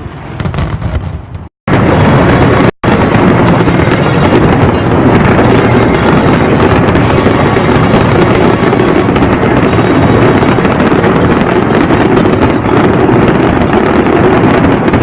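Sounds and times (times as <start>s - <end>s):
fireworks going off: 0.0s - 15.0s.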